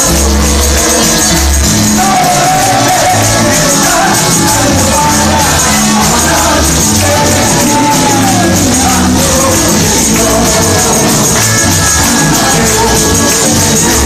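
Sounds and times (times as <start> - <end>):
live band with bass and percussion: 0.0 - 14.0
man singing into microphone: 0.0 - 14.0.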